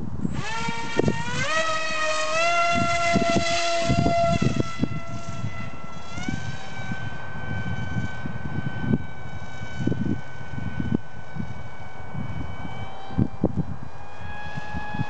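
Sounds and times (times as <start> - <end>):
electric motor and propeller whining: 0.0 - 15.0
wind buffeting microphone: 0.0 - 15.0.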